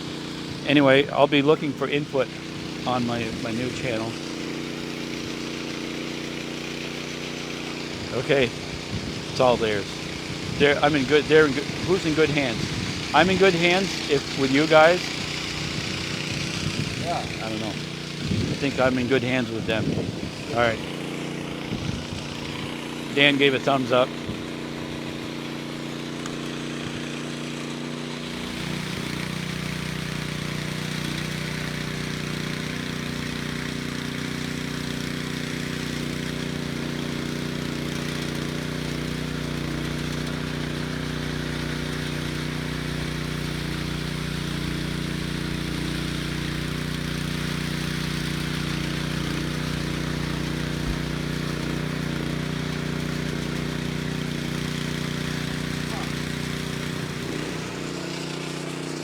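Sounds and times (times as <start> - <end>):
power trowel gasoline engine running: 0.0 - 59.0.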